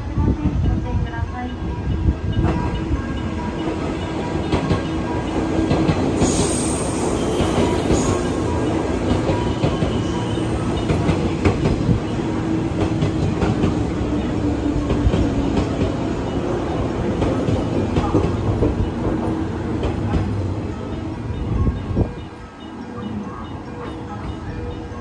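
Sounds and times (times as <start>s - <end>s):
train running gear rumble: 0.2s - 22.4s.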